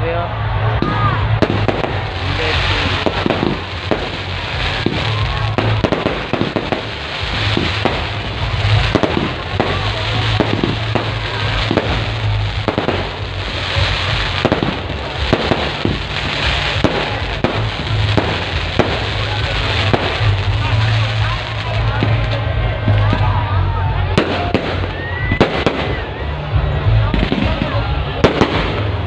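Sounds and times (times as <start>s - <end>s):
fireworks bangs and crackles: 0.3s - 29.0s.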